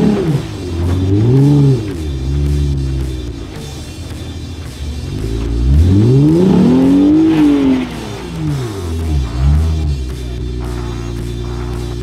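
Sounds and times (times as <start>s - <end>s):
car engine revving hard: 0.0s - 12.0s
rock music: 0.0s - 12.0s.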